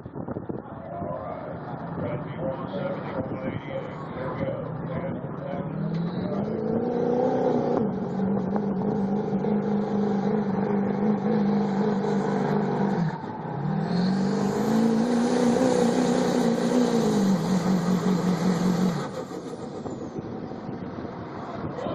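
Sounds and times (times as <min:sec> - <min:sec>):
diesel engine at high revs: 0:01.4 - 0:21.9.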